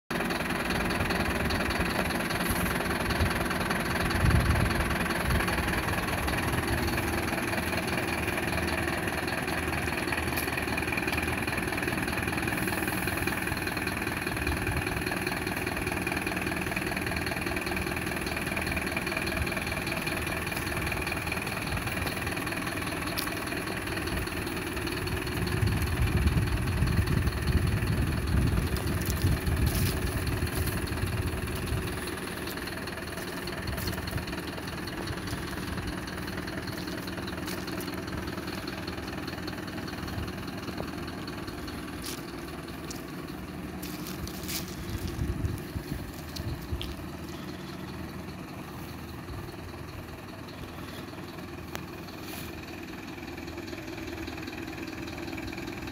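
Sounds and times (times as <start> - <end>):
diesel engine idling: 0.1 - 55.9.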